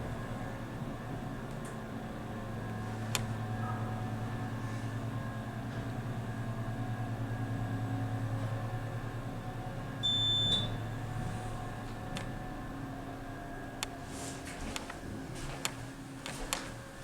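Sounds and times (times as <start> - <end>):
elevator hum: 0.0 - 17.0.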